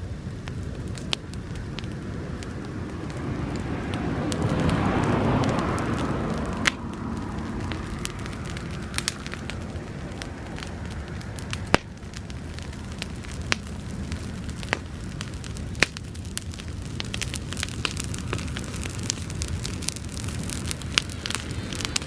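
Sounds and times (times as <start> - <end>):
grass fire crackling: 0.0 - 22.0.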